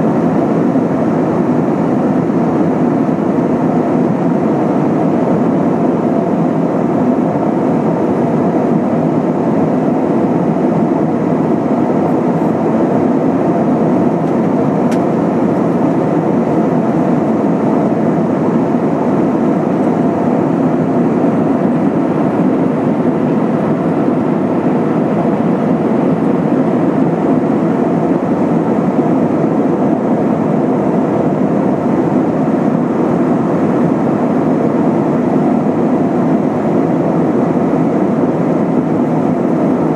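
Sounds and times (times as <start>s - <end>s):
airplane cabin engine rush: 0.0s - 39.9s.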